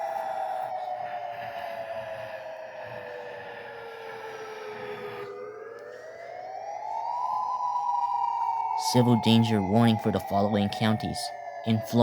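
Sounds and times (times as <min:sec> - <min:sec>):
warning siren winding down: 0:00.0 - 0:12.0.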